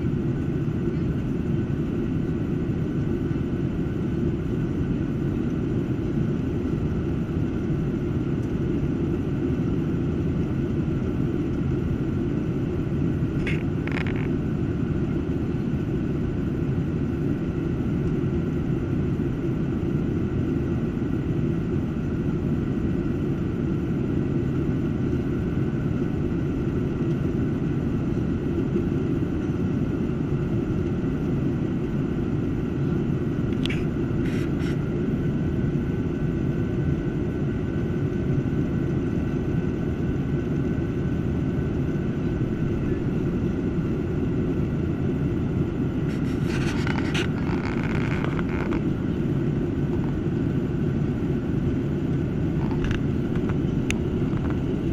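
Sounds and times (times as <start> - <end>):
airplane cabin drone: 0.0 - 54.9
faint steady whine: 0.0 - 54.9.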